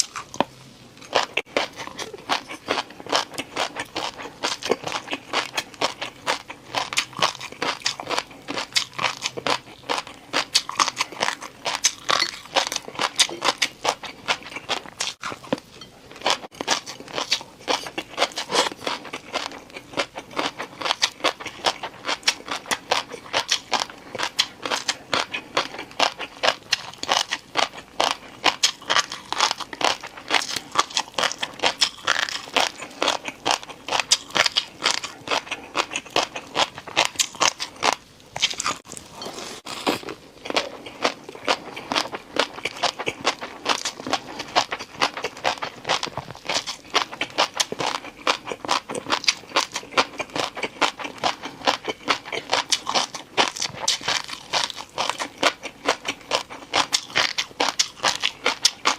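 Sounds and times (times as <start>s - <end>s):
crunchy food being chewed: 0.0s - 58.9s.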